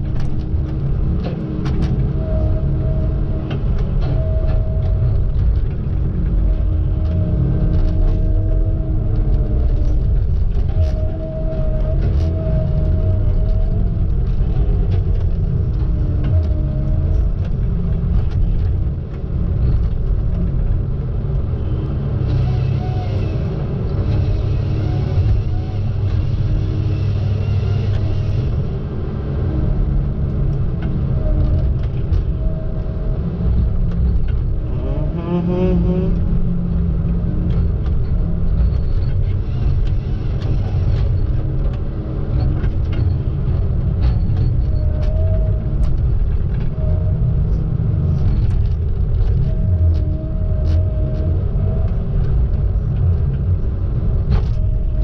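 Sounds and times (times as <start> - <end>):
diesel engine and hydraulics rumbling: 0.0 - 55.0.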